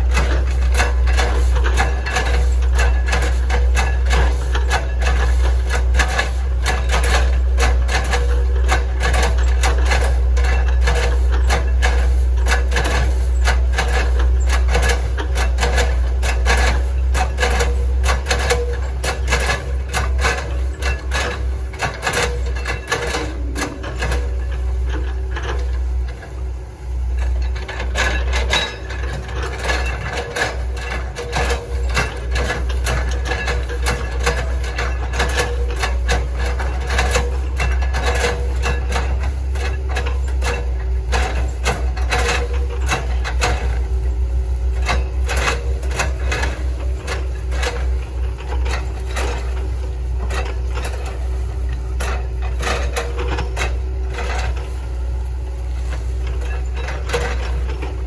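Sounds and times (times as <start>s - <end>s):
excavator diesel engine droning: 0.0s - 58.0s.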